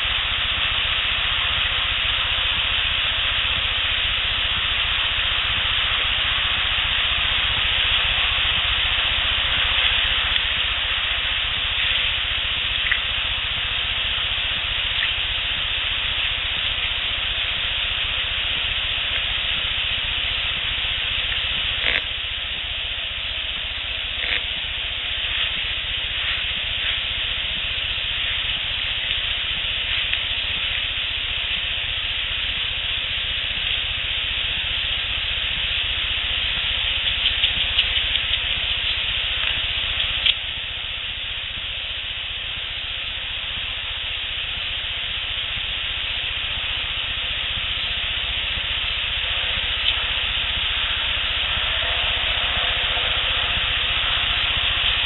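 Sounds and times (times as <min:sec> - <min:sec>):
faint clicks and ticks: 0:00.0 - 0:55.0
steady recording hiss: 0:00.0 - 0:55.0.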